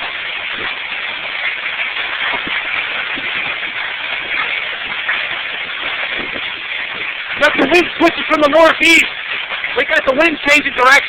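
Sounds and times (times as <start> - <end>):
heavy rain: 0.0 - 11.0
wind: 0.0 - 11.0.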